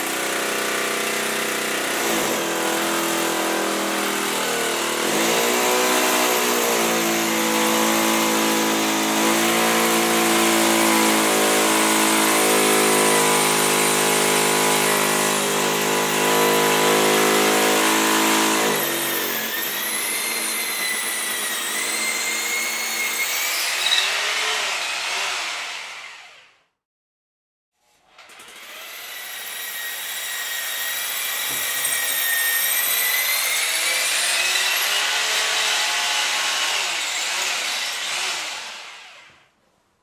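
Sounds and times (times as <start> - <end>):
hammer drill boring into concrete: 0.0 - 26.4, 28.1 - 39.4.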